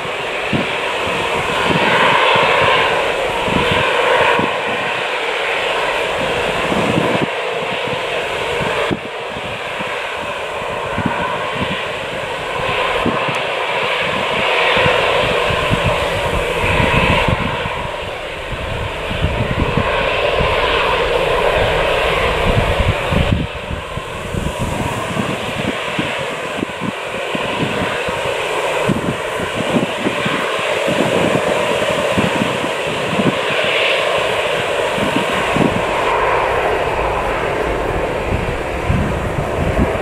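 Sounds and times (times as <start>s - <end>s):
jet engines running: 0.0s - 40.0s.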